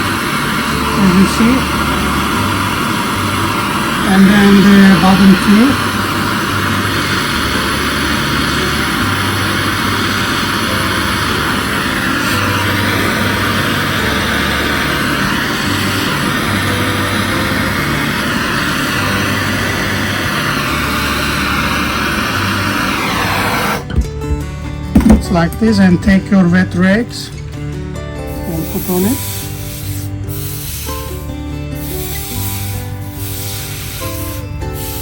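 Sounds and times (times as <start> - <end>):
gas torch hissing: 0.0 - 35.0.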